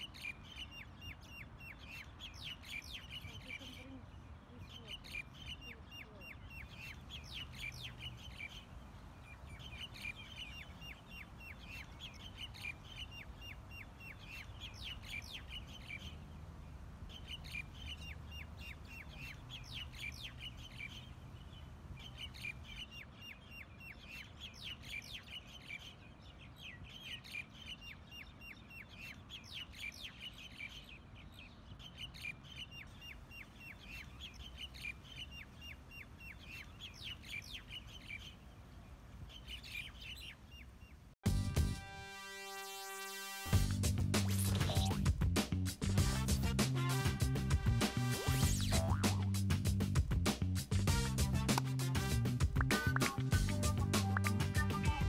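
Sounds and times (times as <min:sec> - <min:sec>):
birds chattering: 0:00.0 - 0:41.2, 0:43.6 - 0:46.2, 0:46.9 - 0:49.5, 0:50.4 - 0:55.0.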